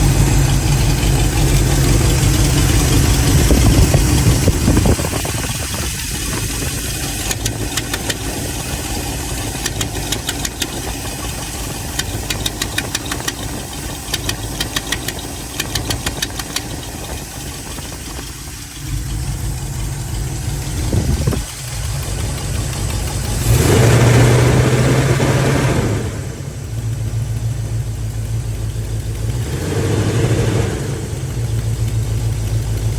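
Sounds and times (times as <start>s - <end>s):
exhaust leak ticking: 0.0s - 25.4s, 26.3s - 32.9s
car engine running: 0.0s - 32.9s.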